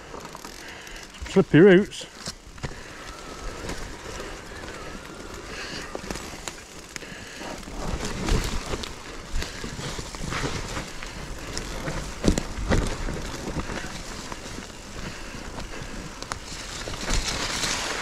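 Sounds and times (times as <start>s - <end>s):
bike chain and frame rattling: 0.0s - 18.0s
bike tyres rolling over mud: 0.0s - 18.0s.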